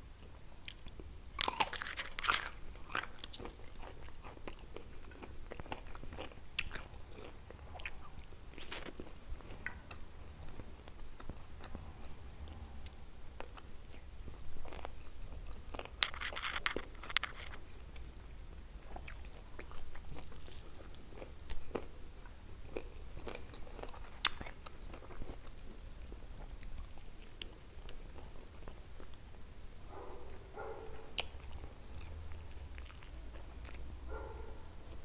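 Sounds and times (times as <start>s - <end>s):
crunchy chewing: 0.6s - 18.1s, 18.8s - 35.0s.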